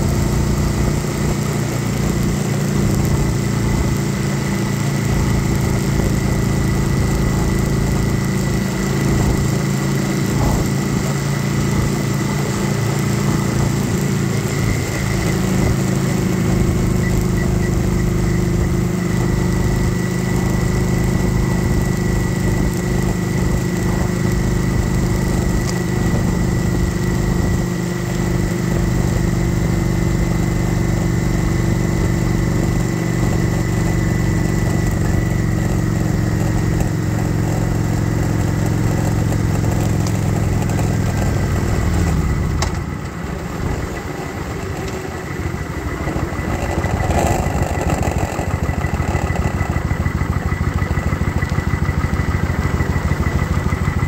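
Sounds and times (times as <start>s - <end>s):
motorcycle engine running steadily: 0.0s - 54.0s
wind and road noise: 0.0s - 54.0s.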